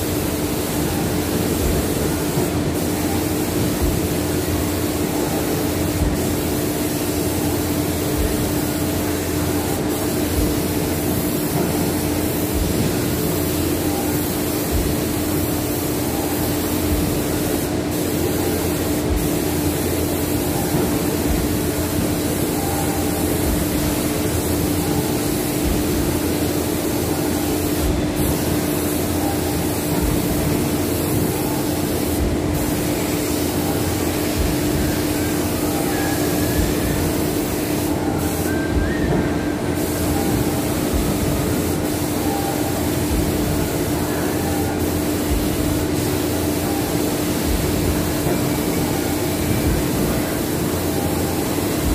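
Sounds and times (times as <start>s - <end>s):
motor hum with hiss: 0.0s - 51.9s.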